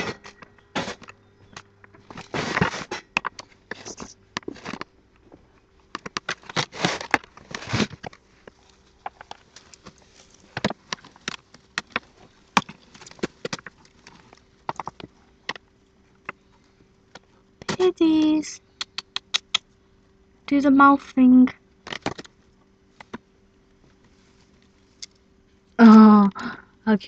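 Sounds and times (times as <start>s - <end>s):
rustling and handling noise: 0.0s - 18.4s, 21.7s - 26.0s.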